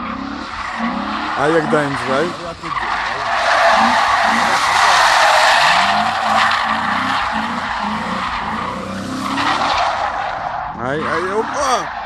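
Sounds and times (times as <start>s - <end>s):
car engine revving: 0.0s - 12.0s
tyres squealing and skidding: 0.0s - 12.0s.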